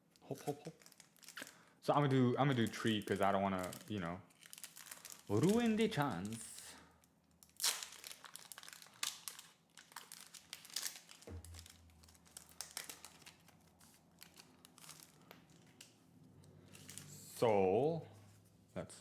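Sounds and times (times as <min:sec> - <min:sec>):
foil wrapper crinkling: 0:00.0 - 0:16.0, 0:16.6 - 0:17.2.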